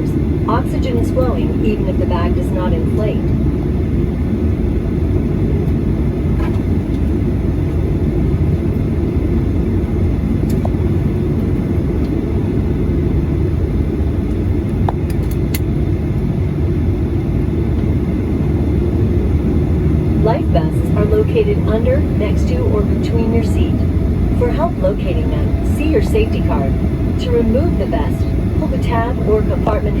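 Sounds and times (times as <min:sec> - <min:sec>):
airplane cabin rumble: 0:00.0 - 0:30.0.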